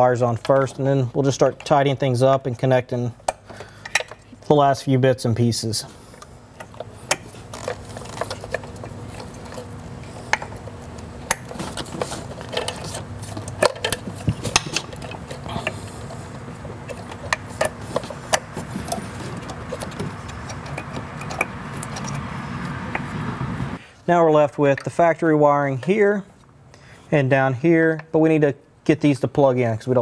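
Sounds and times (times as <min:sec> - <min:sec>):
steady low hum: 0:00.0 - 0:24.1.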